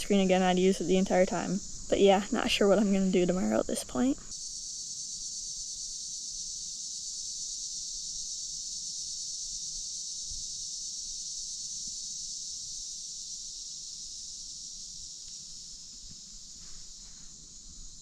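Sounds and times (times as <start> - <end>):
night insects chirping: 0.0 - 18.0.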